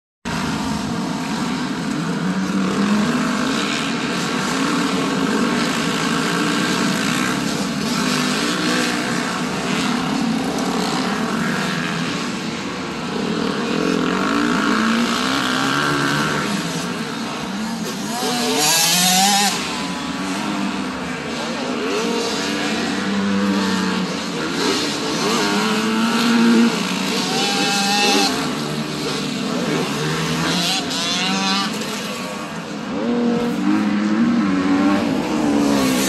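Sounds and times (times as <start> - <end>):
dirt bike engines revving: 0.3 - 36.0.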